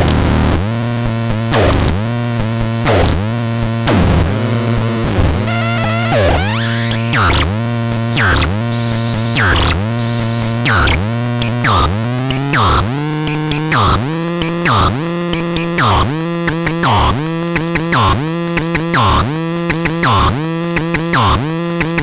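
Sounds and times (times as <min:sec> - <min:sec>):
buzzy electronic tone with sweep: 0:03.9 - 0:22.0.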